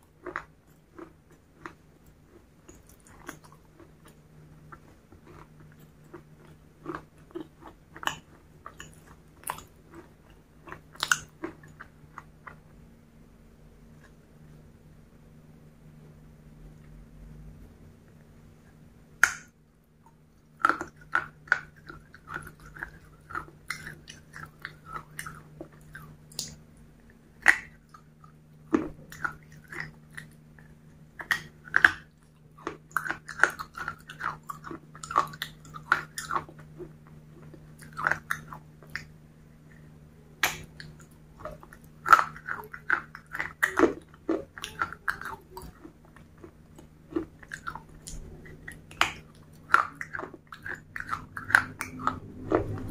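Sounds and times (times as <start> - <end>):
crunchy chewing: 0.0 - 12.8, 19.2 - 52.9
faint low hum: 0.0 - 52.9.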